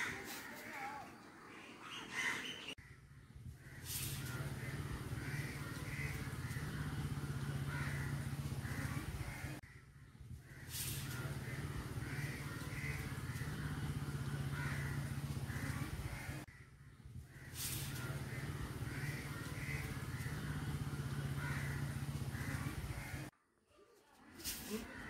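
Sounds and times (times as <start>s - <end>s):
crows cawing: 0.0s - 0.7s, 1.8s - 3.0s, 3.6s - 23.3s, 24.7s - 25.0s
steady low hum: 2.8s - 23.3s.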